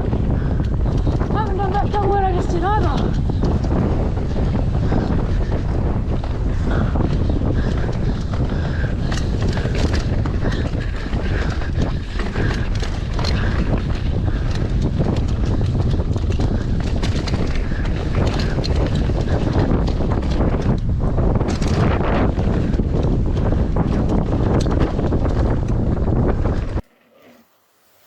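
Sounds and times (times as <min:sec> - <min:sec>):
wind buffeting microphone: 0:00.0 - 0:26.9
bike rattling on dirt trail: 0:00.0 - 0:28.0.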